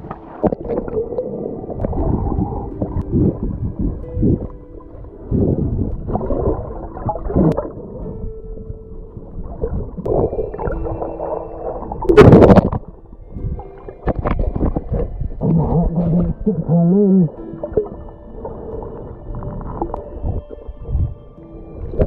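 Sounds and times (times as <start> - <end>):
muffled underwater water movement: 0.0 - 22.0.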